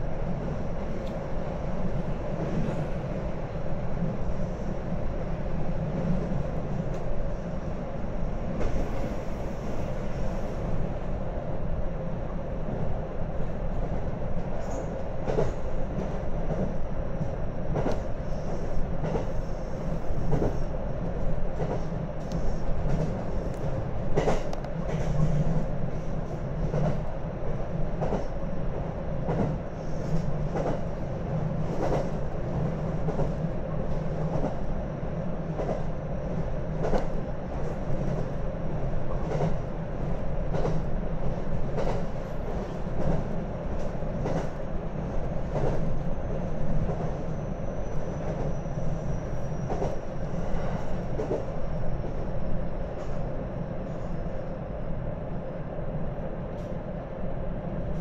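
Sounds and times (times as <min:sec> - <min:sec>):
train rumble inside carriage: 0:00.0 - 0:58.0.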